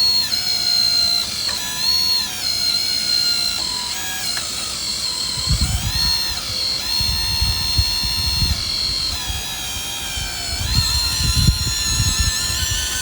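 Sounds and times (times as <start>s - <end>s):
hydraulic pump whining: 0.0s - 13.0s.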